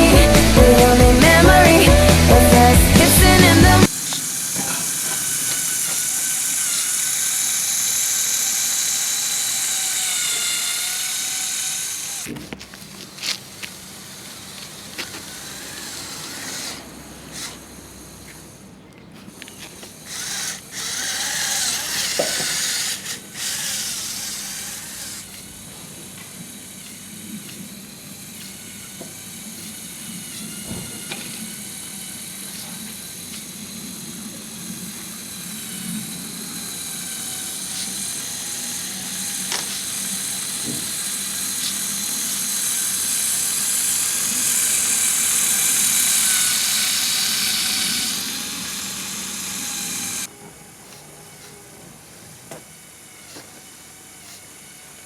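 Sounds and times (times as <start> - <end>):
toy electric motors whining: 0.0 - 55.0.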